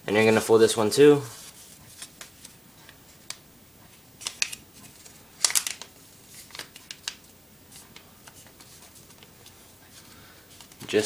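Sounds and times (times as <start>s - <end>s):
paper folding rustles: 1.1s - 3.4s, 4.2s - 11.0s.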